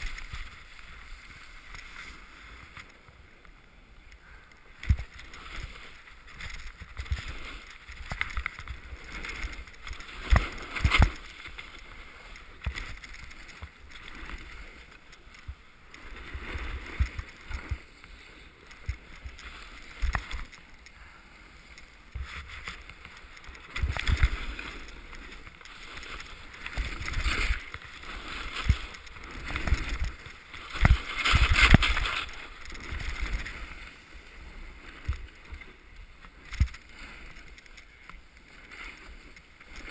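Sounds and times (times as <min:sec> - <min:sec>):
skis scraping snow: 0:00.0 - 0:39.9.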